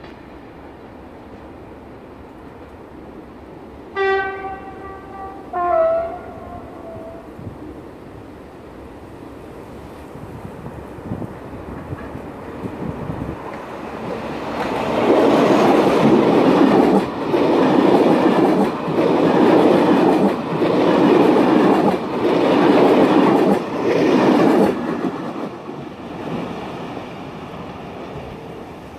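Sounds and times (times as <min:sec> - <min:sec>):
passenger train passing: 0:00.0 - 0:28.9.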